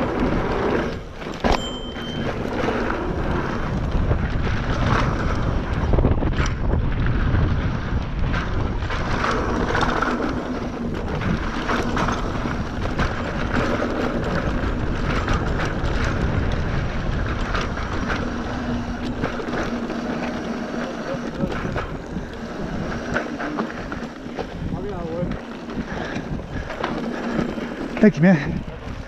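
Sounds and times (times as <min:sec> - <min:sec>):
mountain bike rolling on dirt: 0:00.0 - 0:29.0
wind buffeting microphone: 0:00.0 - 0:29.0.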